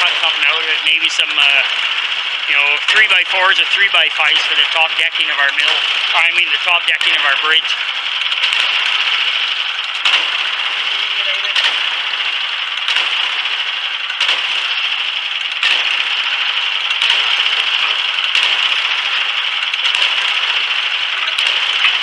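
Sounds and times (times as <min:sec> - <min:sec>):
small gas engine idling: 0:00.0 - 0:22.0.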